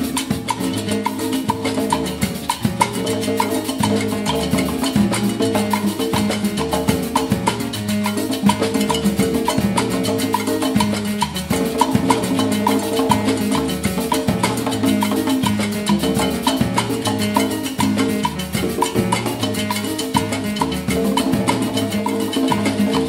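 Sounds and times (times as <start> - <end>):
block struck in pattern: 0.0 - 23.0
congas: 0.0 - 23.0
drum kit: 0.0 - 23.0
marimba melody: 0.0 - 23.0.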